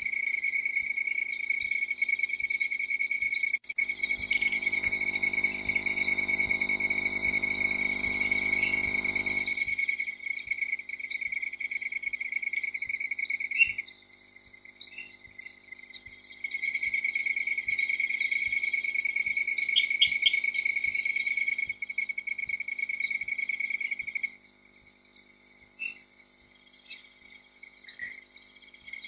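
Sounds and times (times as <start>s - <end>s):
insect trilling: 0.0s - 24.5s.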